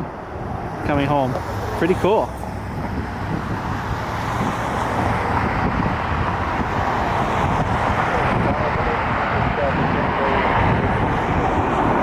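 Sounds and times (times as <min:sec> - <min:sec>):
distant jet engines: 0:00.0 - 0:12.0.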